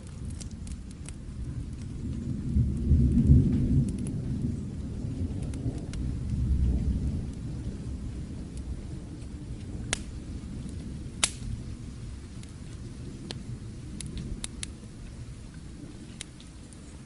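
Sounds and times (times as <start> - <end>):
distant thunder rumbling: 0.0 - 17.0
fireplace crackles: 0.0 - 17.0
steady rain: 0.0 - 17.0.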